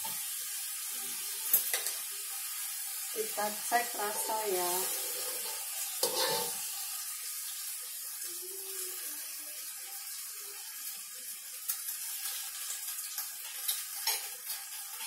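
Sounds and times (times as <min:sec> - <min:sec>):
vegetables sizzling in a wok: 0:00.0 - 0:15.0.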